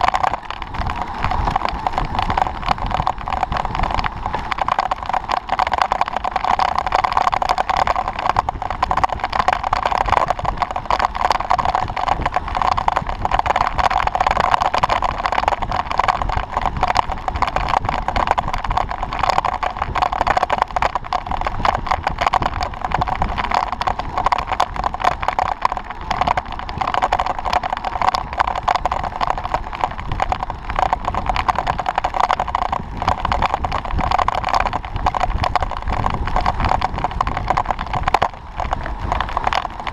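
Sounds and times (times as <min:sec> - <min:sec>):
bicycle road noise: 0:00.0 - 0:39.9
fast clicking rattle: 0:00.0 - 0:39.9
rushing wind: 0:00.0 - 0:39.9.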